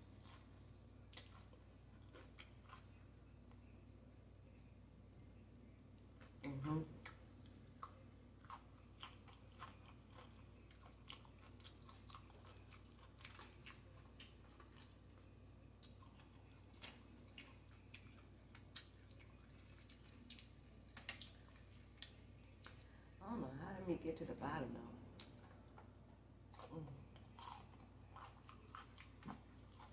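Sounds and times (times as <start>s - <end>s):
chewing and crunching chips: 0.0s - 4.8s, 5.6s - 23.2s, 25.1s - 29.9s.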